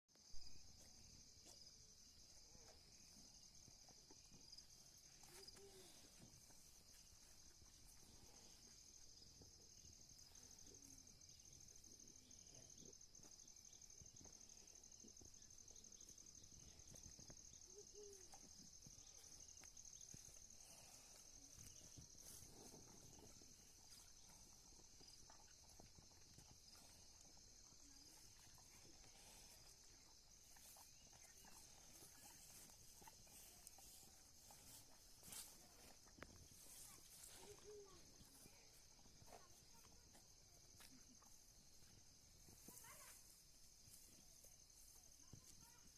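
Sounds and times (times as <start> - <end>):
insects chirring: 0.1 - 45.9.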